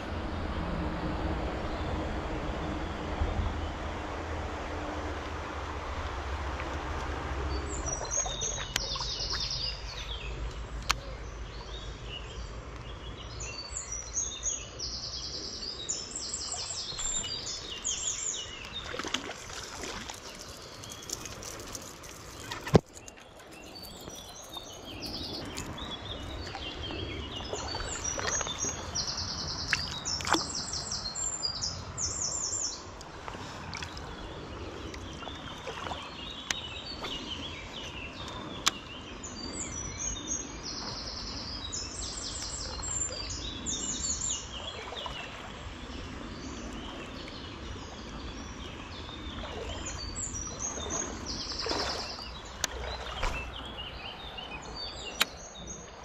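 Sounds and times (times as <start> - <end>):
songbird singing: 0.0 - 4.3, 7.3 - 56.0.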